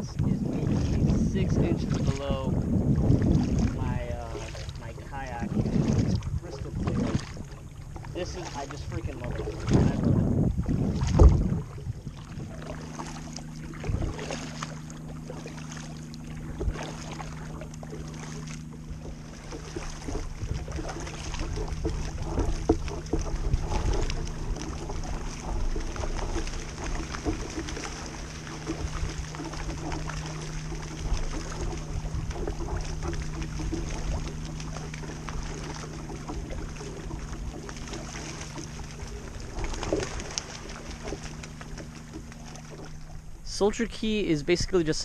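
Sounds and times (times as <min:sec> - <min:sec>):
paddle splashing in water: 0:00.0 - 0:44.8
low hum: 0:00.0 - 0:45.0
water washing along hull: 0:00.0 - 0:45.0.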